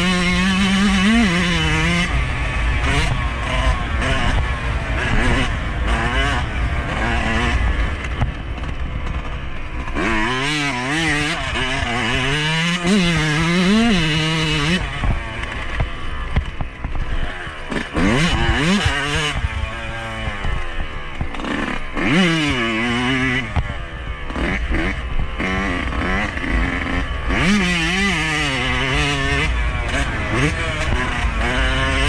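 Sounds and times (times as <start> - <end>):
two-stroke motorcycle engine revving: 0.0 - 32.0.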